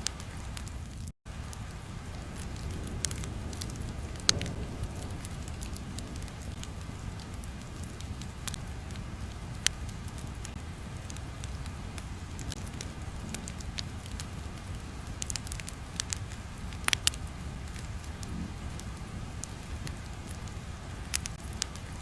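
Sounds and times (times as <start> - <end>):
fire pops and snaps: 0.0 - 22.0
steady low rumble of fire: 0.0 - 22.0.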